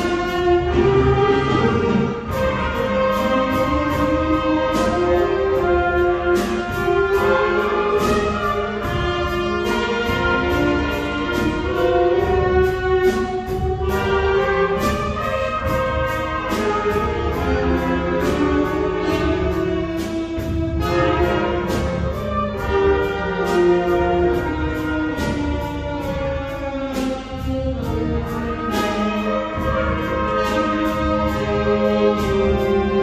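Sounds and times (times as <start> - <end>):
children's wind band playing: 0.0 - 33.0.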